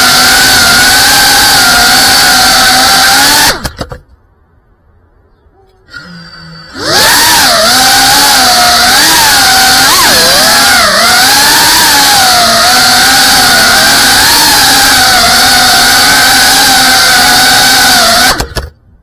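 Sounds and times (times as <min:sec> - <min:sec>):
drone motors whining: 0:00.0 - 0:03.9, 0:05.8 - 0:18.8.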